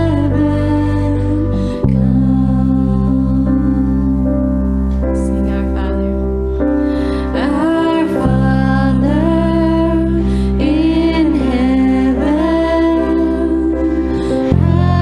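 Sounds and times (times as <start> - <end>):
person singing slow melody: 0.0 - 15.0
sustained accompanying chords: 0.0 - 15.0.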